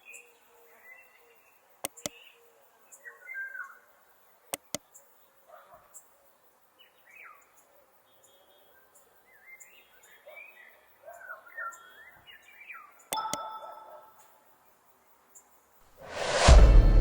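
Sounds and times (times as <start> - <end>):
faint bird-like chirping: 0.0 - 15.7.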